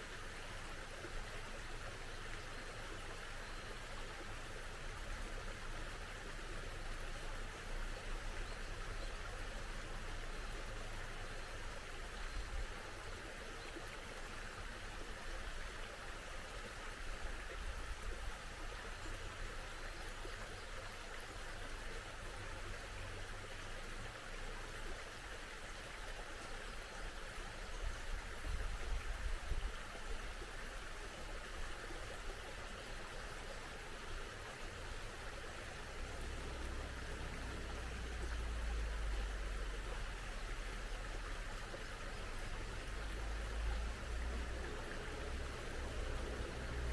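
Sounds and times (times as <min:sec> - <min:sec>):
stream babbling: 0:00.0 - 0:46.9.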